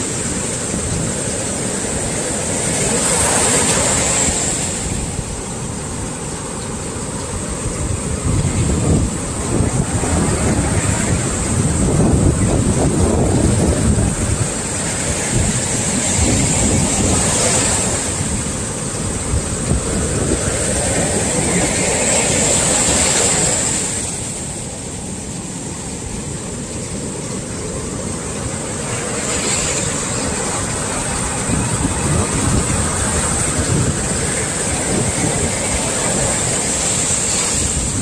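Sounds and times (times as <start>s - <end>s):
waves breaking on a beach: 0.0s - 38.0s.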